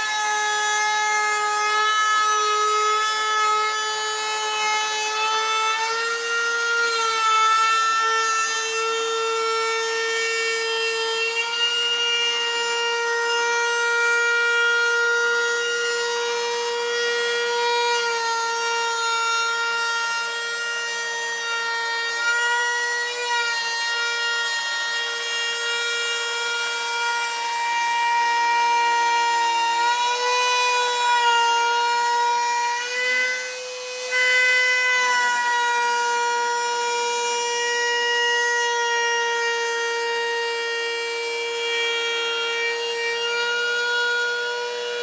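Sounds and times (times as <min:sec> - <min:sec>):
router cutting wood with high whine: 0:00.0 - 0:45.0.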